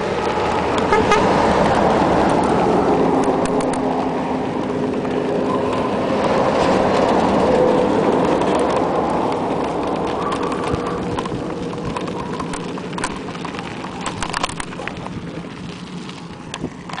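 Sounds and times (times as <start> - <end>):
bike rattling clicks: 0.0 - 17.0
wind and tyres on gravel: 0.0 - 17.0.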